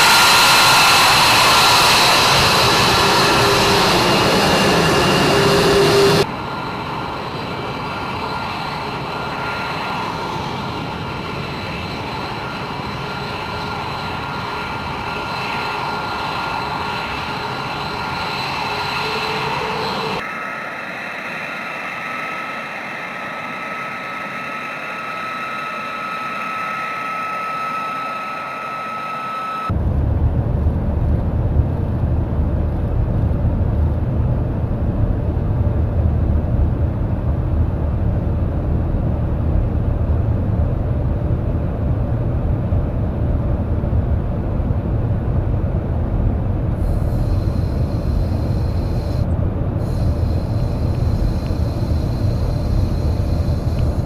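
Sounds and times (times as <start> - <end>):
jet engine deep rumble: 0.0 - 54.0
jet engine whine: 0.0 - 54.0.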